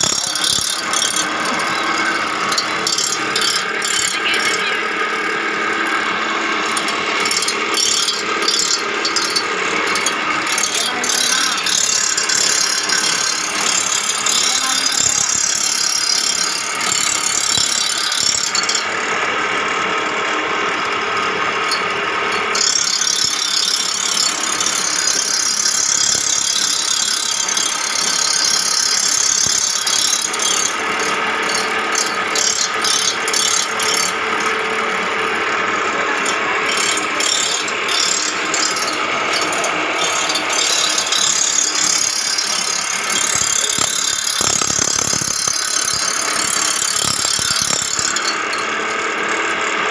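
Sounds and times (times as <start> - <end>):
metal grinding on stone: 0.0 - 19.0, 20.9 - 49.9.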